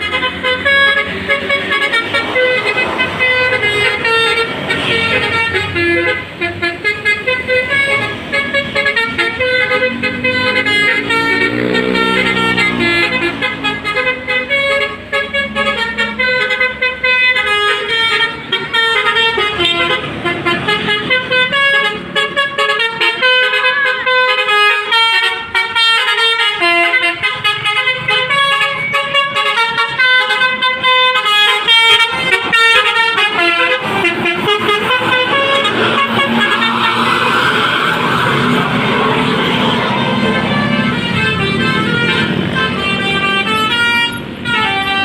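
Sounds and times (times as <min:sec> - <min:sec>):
melodic bus horns: 0:00.0 - 0:45.0.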